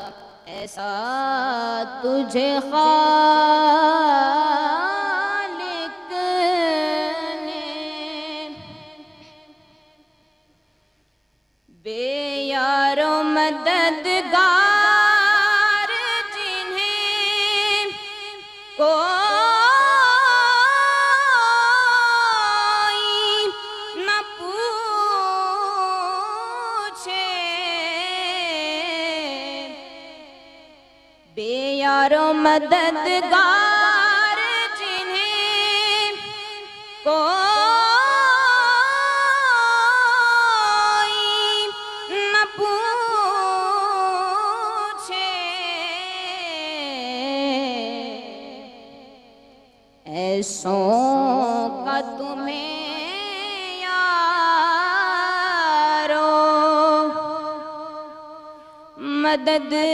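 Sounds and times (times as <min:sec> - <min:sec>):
woman singing unaccompanied: 0:00.0 - 0:10.1, 0:11.7 - 0:49.2, 0:50.0 - 0:59.9.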